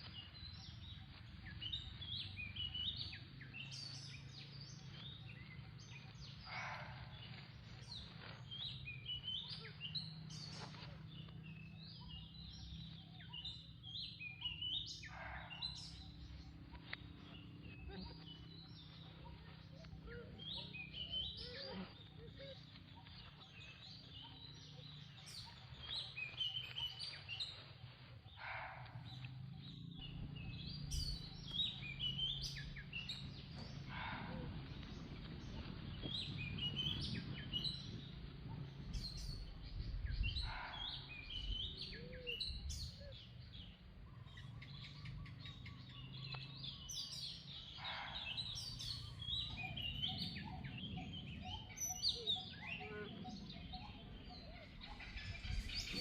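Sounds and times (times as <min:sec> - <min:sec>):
steady low hum: 0:00.0 - 0:45.5
birds chirping: 0:00.0 - 0:56.0.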